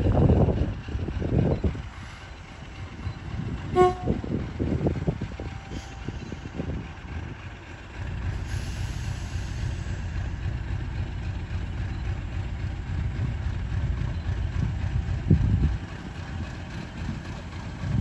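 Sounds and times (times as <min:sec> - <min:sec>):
diesel locomotive engine rumbling: 0:00.0 - 0:18.0.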